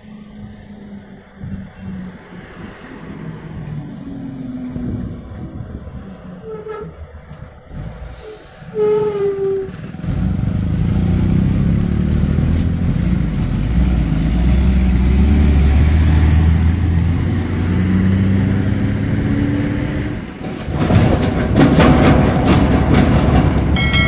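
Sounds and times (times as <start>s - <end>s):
truck diesel engines droning: 0.0s - 24.0s
trailer rattling clatter: 3.6s - 24.0s.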